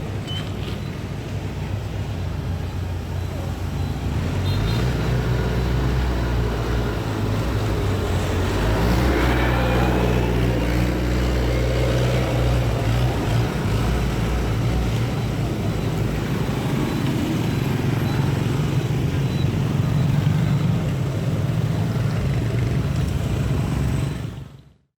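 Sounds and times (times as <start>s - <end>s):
traffic engine noise: 0.0s - 24.9s
vehicle passing by: 4.0s - 24.4s.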